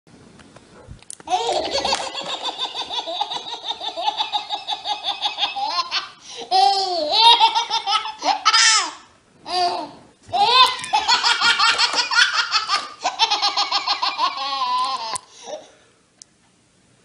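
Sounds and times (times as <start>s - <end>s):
baby laughing: 1.3s - 15.6s.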